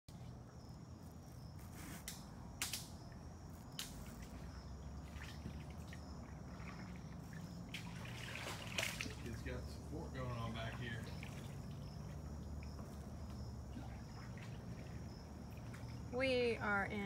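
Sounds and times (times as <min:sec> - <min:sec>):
insect drone: 0:00.1 - 0:17.0.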